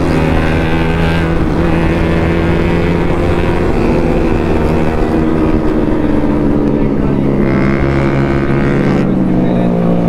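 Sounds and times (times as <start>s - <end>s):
wind noise: 0.0s - 8.4s
motorcycle engine running: 0.0s - 10.0s.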